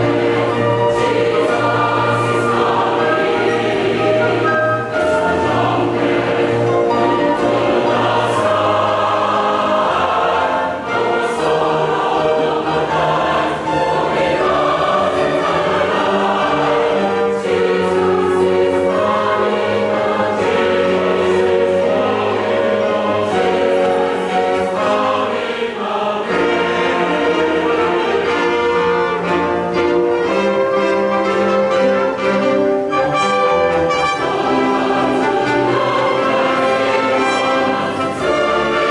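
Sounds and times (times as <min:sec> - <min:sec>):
choir singing: 0:00.0 - 0:38.9
instrumental ensemble accompanying: 0:00.0 - 0:38.9.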